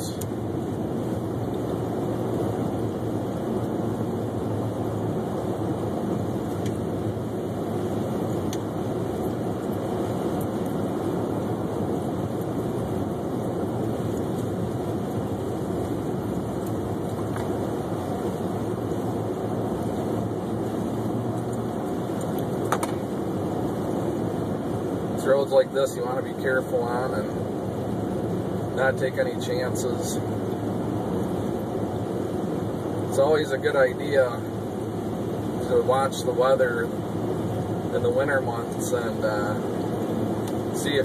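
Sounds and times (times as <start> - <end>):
car driving on snowy road: 0.0 - 41.0.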